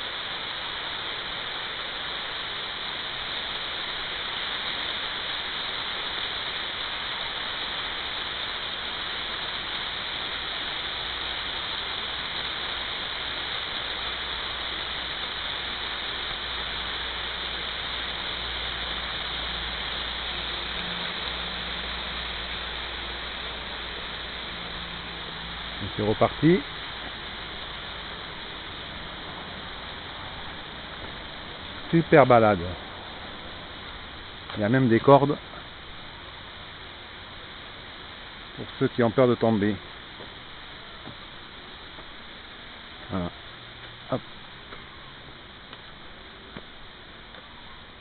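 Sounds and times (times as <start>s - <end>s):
running water hissing: 0.0s - 48.0s.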